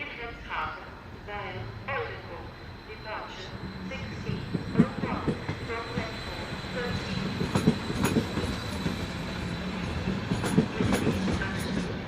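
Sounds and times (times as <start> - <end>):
train running hum: 0.0 - 12.0.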